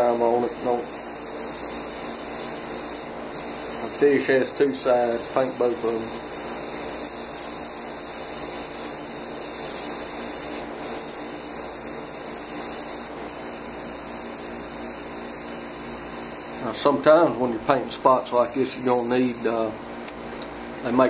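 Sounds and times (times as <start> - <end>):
airbrush spraying hiss: 0.0 - 16.6, 18.3 - 19.6.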